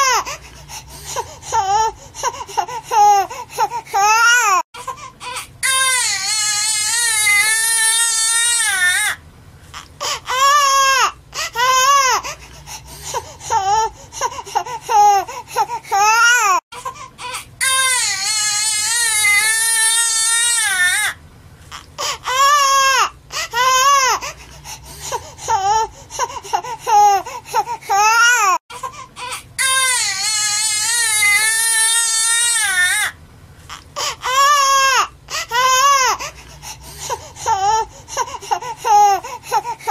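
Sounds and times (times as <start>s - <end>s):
newborn baby crying: 1.2s - 9.2s, 9.8s - 12.4s, 13.2s - 24.4s, 25.0s - 39.9s.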